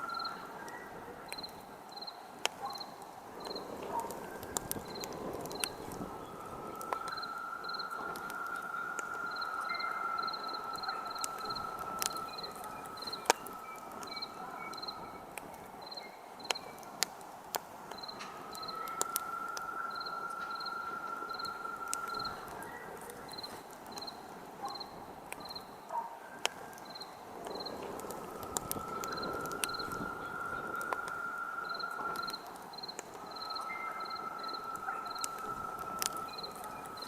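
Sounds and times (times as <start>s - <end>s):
steady insect trill: 0.0s - 0.6s, 1.2s - 16.8s, 17.9s - 25.8s, 26.8s - 37.0s
campfire crackling and popping: 0.0s - 37.0s
crickets chirping: 0.0s - 37.0s.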